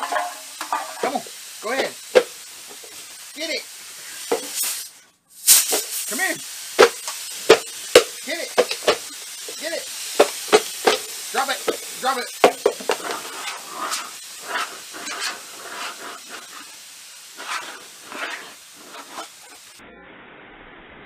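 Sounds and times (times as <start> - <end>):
compressed air blow gun hissing: 0.0 - 19.8.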